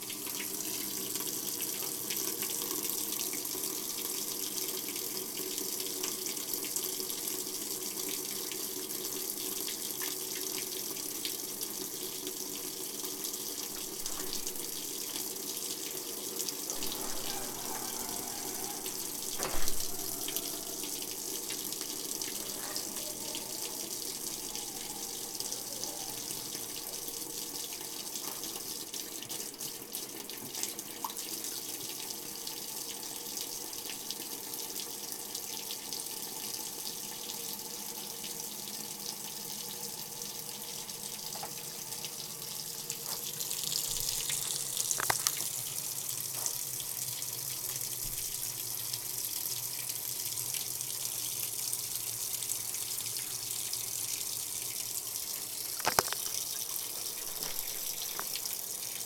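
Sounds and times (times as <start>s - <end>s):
water running into washing machine: 0.0s - 59.0s.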